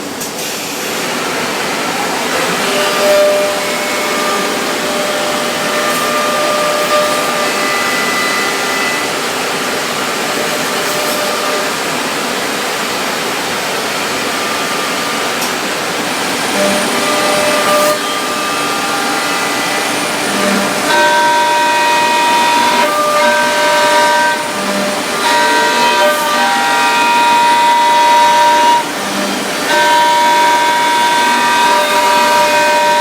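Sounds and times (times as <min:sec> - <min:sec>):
high spindle whine: 0:00.0 - 0:33.0
router cutting wood: 0:00.4 - 0:33.0.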